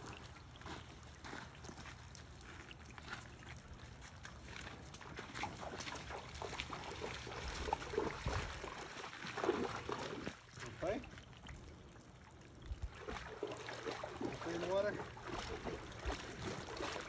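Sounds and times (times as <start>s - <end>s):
water sloshing around horse legs: 0.0s - 17.0s.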